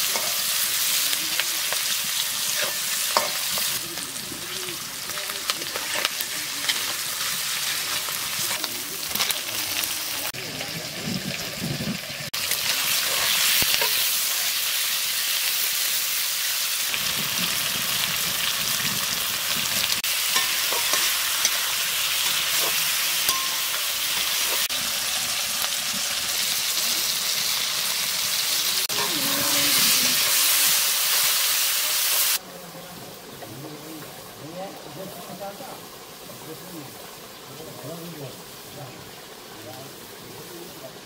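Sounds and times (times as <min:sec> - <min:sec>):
fish frying in hot oil: 0:00.0 - 0:32.4, 0:34.0 - 0:40.3.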